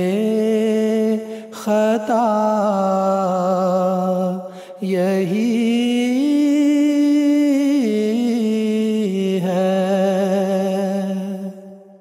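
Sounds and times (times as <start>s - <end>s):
man singing unaccompanied: 0.0s - 11.8s.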